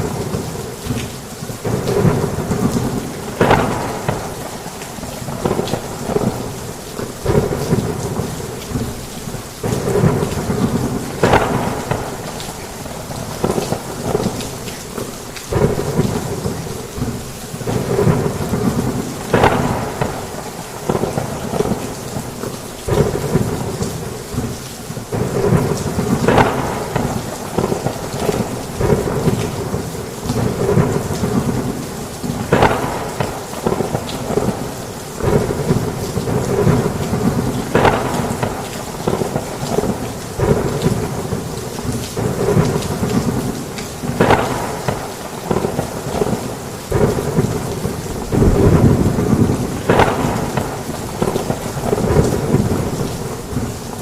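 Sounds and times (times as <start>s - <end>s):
heavy rain on a roof: 0.0s - 54.0s
rumbling thunder: 1.6s - 14.8s, 15.5s - 22.3s, 22.9s - 53.8s.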